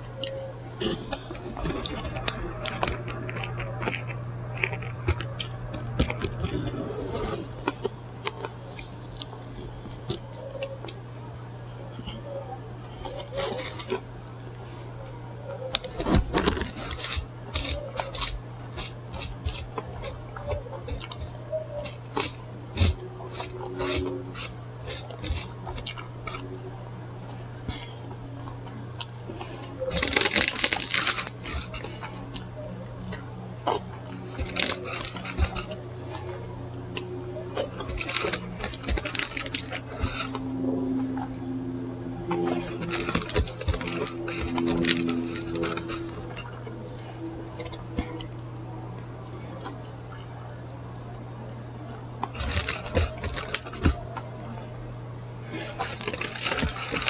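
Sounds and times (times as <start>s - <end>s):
paper wrapper crinkling: 0.0s - 11.3s, 13.0s - 26.9s, 27.6s - 40.5s, 42.3s - 48.6s, 49.5s - 54.8s, 55.5s - 57.0s
chewing with mouth clicks: 0.0s - 57.0s
steady low hum: 0.0s - 57.0s.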